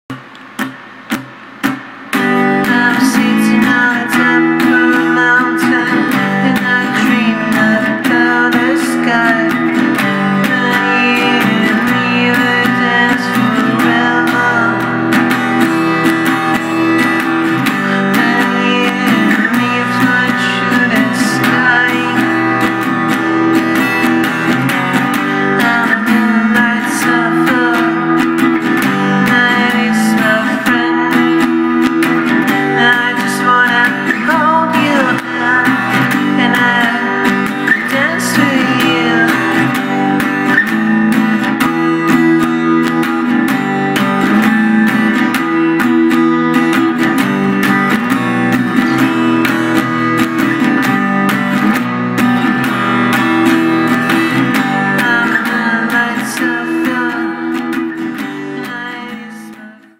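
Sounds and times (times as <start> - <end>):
strummed guitar music: 0.1 - 59.9.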